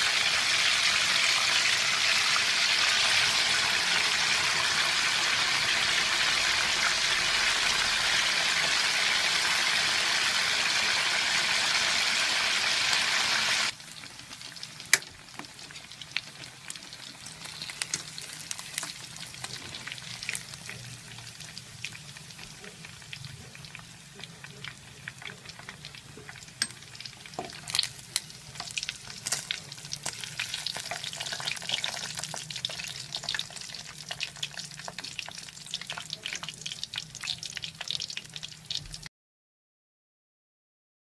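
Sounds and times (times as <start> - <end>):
chicken sizzling in hot oil: 0.0 - 39.1.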